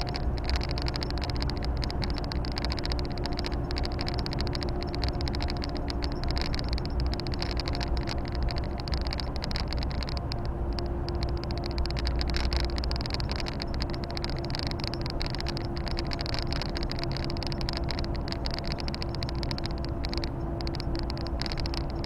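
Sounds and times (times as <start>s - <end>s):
road and tyre noise: 0.0s - 22.0s.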